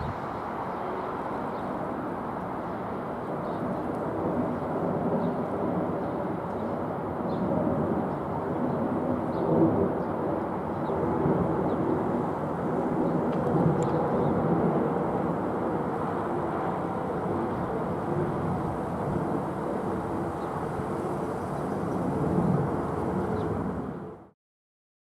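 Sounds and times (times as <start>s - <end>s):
jet engines rumbling: 0.0s - 24.3s.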